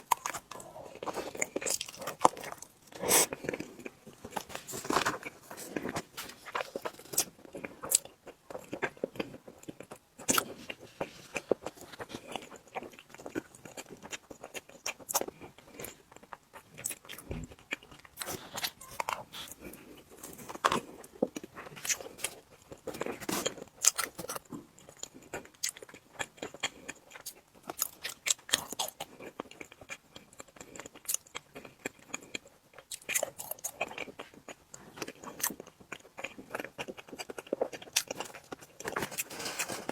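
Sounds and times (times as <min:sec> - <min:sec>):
chewing and wet mouth sounds: 0:00.0 - 0:39.9.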